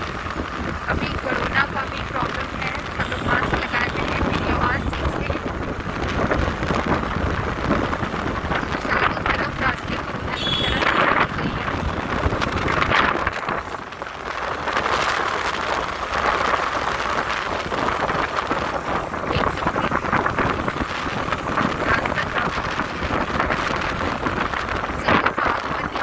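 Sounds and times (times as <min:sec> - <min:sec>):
road and motor noise: 0:00.0 - 0:26.0
wind buffeting microphone: 0:00.0 - 0:26.0.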